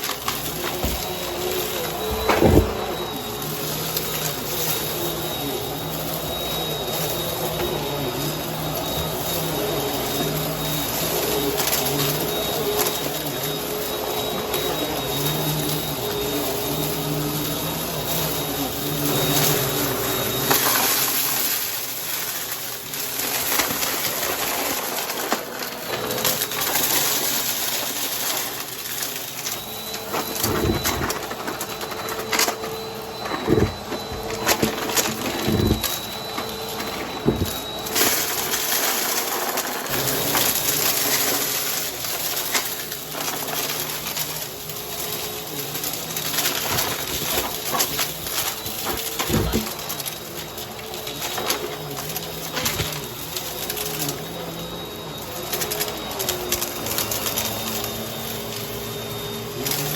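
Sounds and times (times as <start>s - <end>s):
debris crunching in vacuum: 0.0s - 59.9s
vacuum cleaner running: 0.0s - 59.9s.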